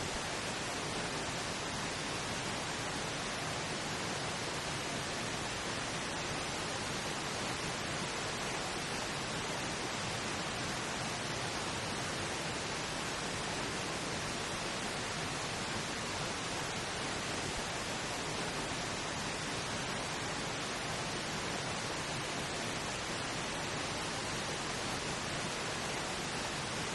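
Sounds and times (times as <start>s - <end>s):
pink noise hiss: 0.0s - 26.9s.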